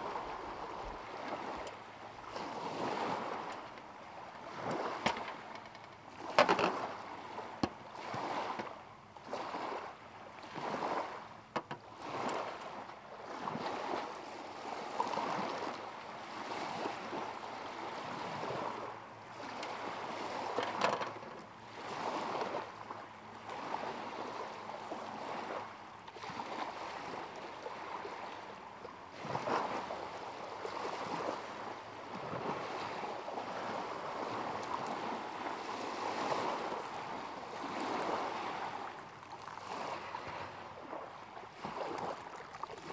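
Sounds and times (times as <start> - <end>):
small waves lapping at shore: 0.0 - 42.9.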